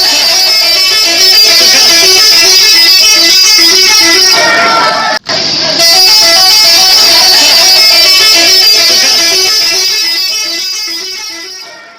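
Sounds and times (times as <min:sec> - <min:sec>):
multi-tone bus horn melody: 0:00.0 - 0:11.9
music: 0:00.0 - 0:11.9.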